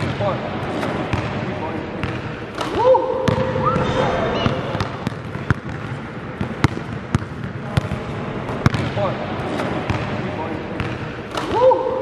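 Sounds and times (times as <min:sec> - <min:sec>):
basketball bouncing on gym court: 0:00.0 - 0:11.8.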